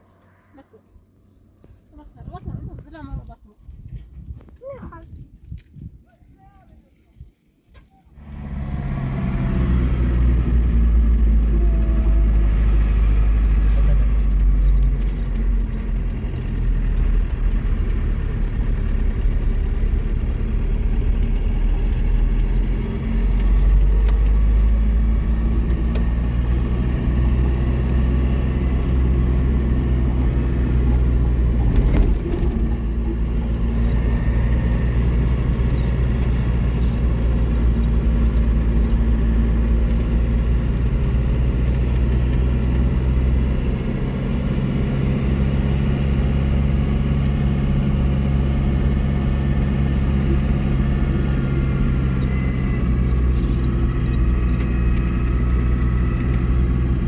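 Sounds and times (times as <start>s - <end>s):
car engine and road rumble: 7.6s - 57.0s.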